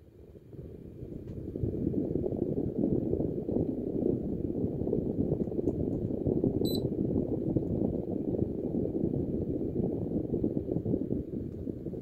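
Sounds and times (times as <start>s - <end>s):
air buffeting microphone: 0.2s - 12.0s.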